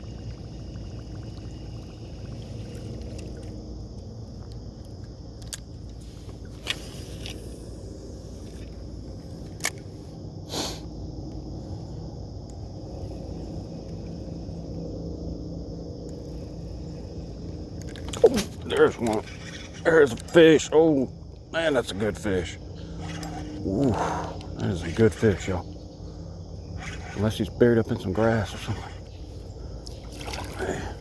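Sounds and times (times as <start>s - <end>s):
insect drone: 0.0s - 31.0s
rumble of water and wind: 0.0s - 31.0s.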